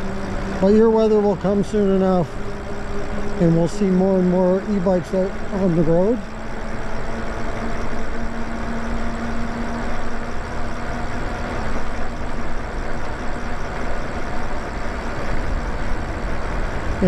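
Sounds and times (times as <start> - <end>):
road noise: 0.0 - 17.0
steady hum: 0.0 - 17.0
wind rumbling on microphone: 0.0 - 17.0.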